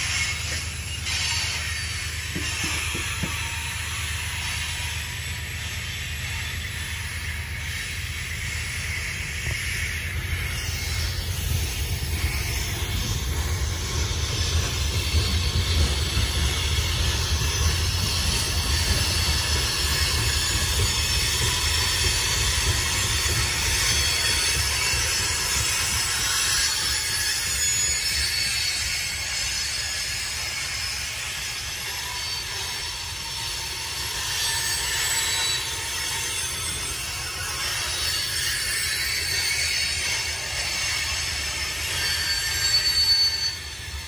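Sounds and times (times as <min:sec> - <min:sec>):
high-pitched wheel squeal: 0:00.0 - 0:44.0
train wheels rumbling on rail: 0:00.0 - 0:44.0.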